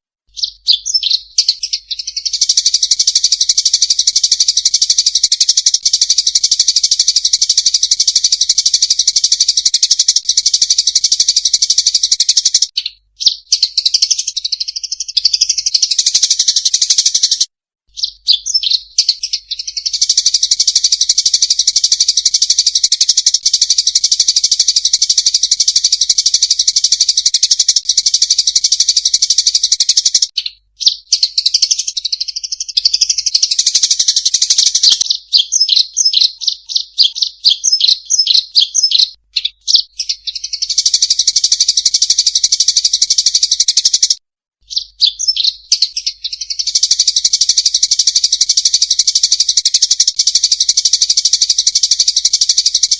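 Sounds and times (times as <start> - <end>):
sparrows chattering: 0.0 - 52.9.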